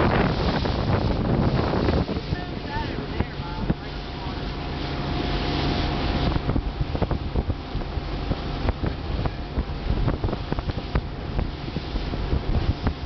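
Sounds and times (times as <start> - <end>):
wind gusting across microphone: 0.0 - 13.0.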